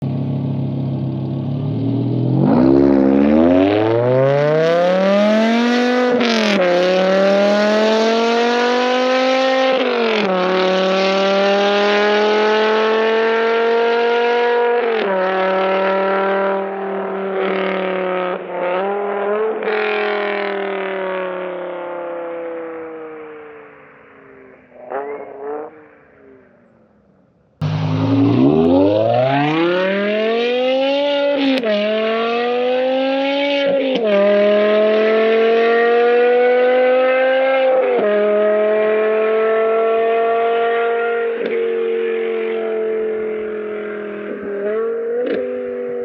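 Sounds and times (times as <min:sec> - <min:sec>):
car engine accelerating: 0:00.0 - 0:26.9, 0:27.6 - 0:46.0.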